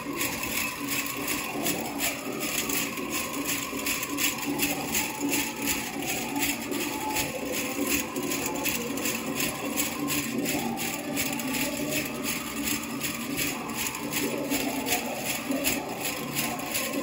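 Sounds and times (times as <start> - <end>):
metal cones jingling with dance steps: 0.0 - 17.0.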